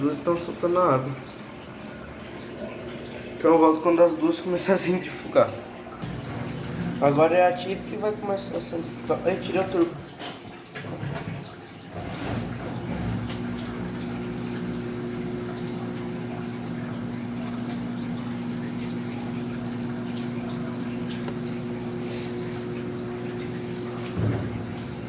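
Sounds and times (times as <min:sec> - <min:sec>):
washing machine drain pump humming: 0:00.0 - 0:25.0.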